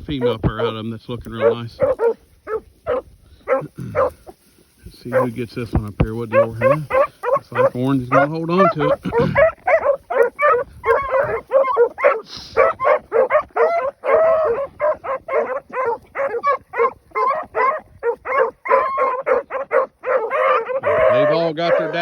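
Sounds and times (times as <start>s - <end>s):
dogs barking and bawling: 0.1s - 4.4s, 5.0s - 22.0s.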